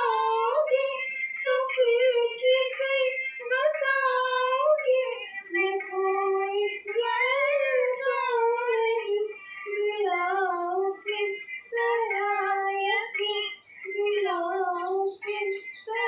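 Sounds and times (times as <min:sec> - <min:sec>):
high-pitched voice singing: 0:00.0 - 0:16.0.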